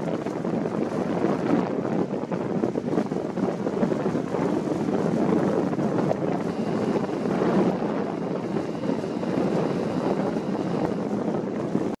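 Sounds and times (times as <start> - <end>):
wind blowing on microphone: 0.0 - 12.0.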